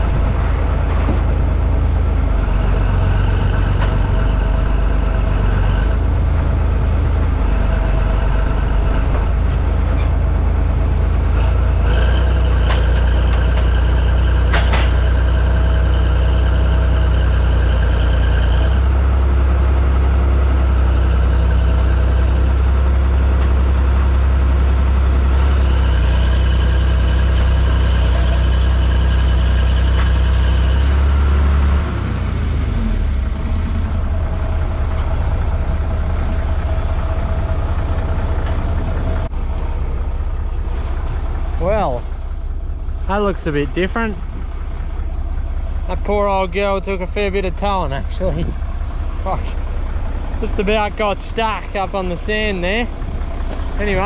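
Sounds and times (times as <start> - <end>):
engine running under heavy load: 0.0 - 54.0.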